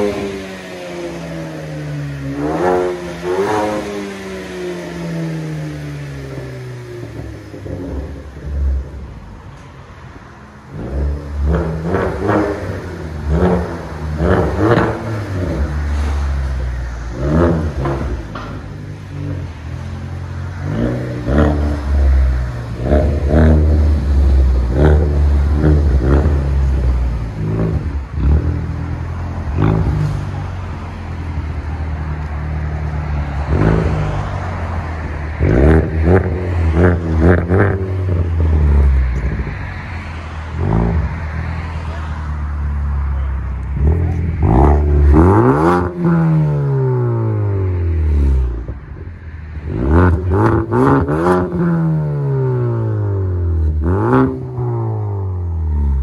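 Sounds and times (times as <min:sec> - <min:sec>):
car exhaust revving: 0:00.0 - 0:09.4, 0:10.6 - 0:56.0.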